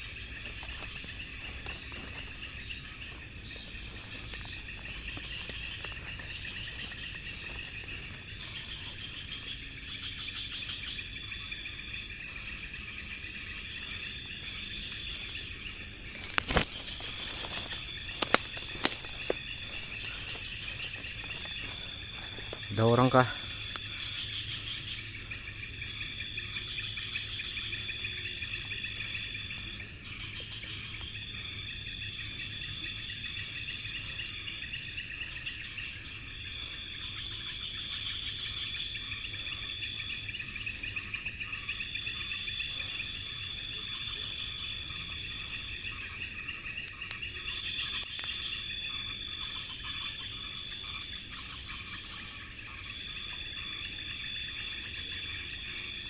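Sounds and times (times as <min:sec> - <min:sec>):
high insect trill: 0:00.0 - 0:56.0
lower insect chirring: 0:00.0 - 0:56.0.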